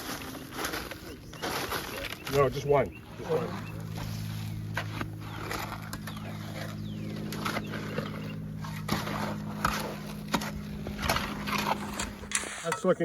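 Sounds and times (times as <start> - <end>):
hand tools scraping wet concrete: 0.0 - 12.2
low motor hum: 0.0 - 12.6.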